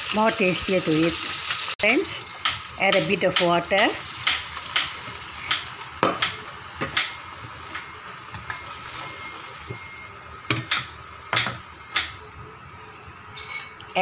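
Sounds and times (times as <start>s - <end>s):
vegetables sizzling in oil: 0.0s - 12.3s.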